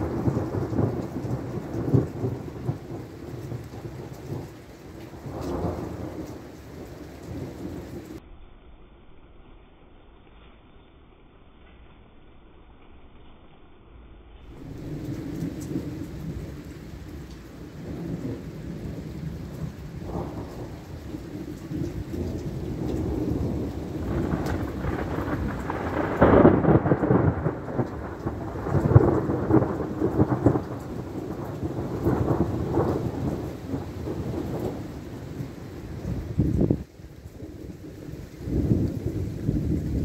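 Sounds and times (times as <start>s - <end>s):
thunder rumbling: 0.0s - 10.2s, 12.1s - 40.0s
rain falling: 0.0s - 40.0s.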